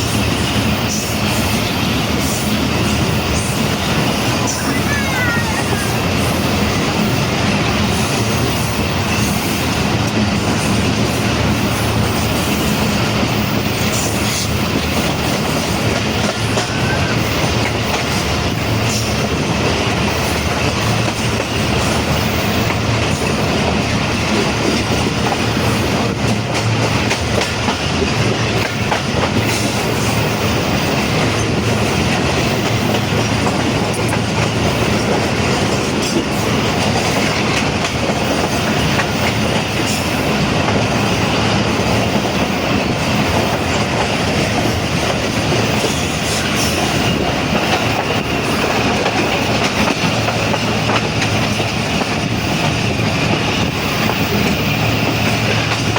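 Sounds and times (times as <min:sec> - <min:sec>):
train wheels on track: 0:00.0 - 0:55.9.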